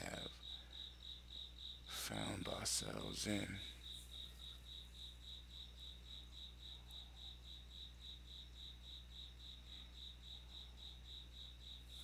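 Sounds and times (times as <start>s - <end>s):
insect trilling: 0.0s - 12.0s
low steady hum: 0.0s - 12.0s.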